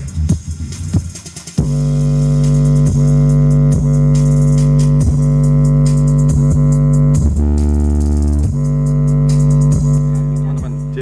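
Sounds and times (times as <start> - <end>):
deep bass music from subwoofer: 0.0 - 11.0
ticking hi-hat: 0.0 - 11.0.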